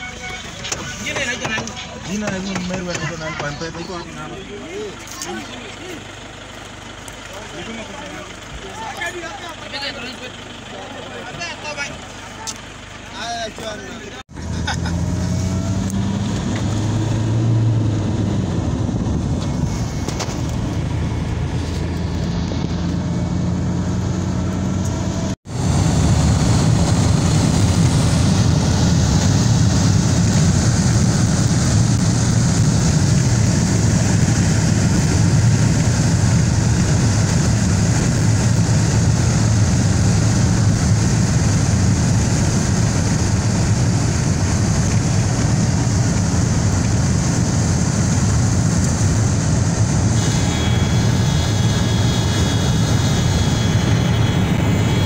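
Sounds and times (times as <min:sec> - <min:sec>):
car engine hum: 0:00.0 - 0:55.0.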